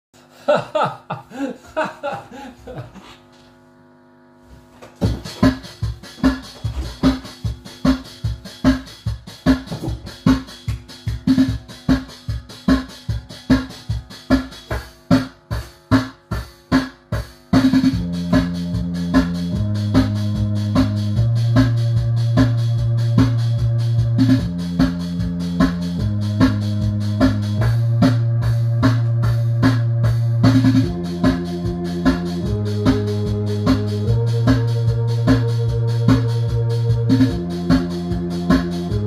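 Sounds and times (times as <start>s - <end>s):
electronic organ chords: 3.8s - 39.0s
electronic drum beat: 5.0s - 39.0s.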